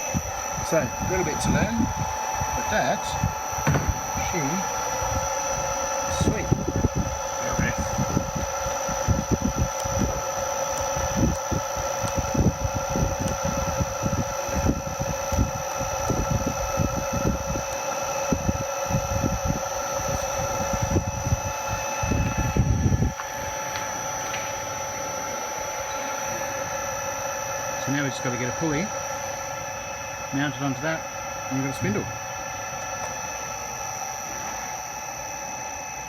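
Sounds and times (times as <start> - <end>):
low rumbling buffets: 0.0 - 17.7, 18.3 - 35.8
electric motor whine: 0.0 - 36.0
hum: 0.0 - 36.0.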